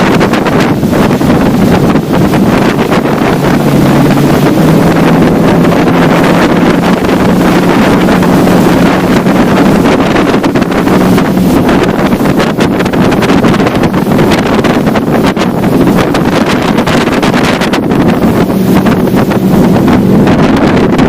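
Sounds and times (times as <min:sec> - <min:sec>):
motorboat engine running: 0:00.0 - 0:21.0
wind buffeting microphone: 0:00.0 - 0:21.0.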